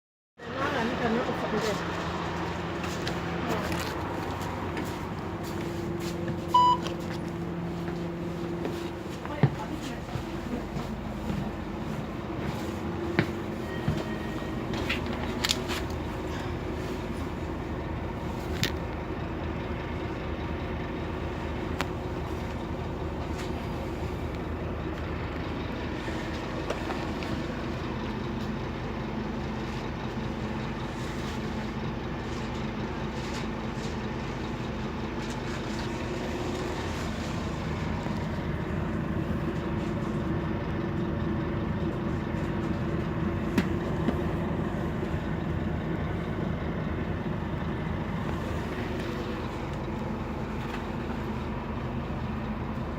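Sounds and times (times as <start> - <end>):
bus diesel engine droning: 0.4 - 52.9.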